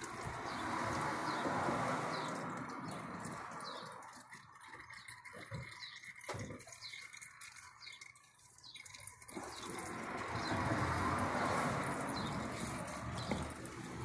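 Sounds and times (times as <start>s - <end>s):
oil dripping into plastic pan: 0.0s - 1.6s, 2.2s - 14.0s.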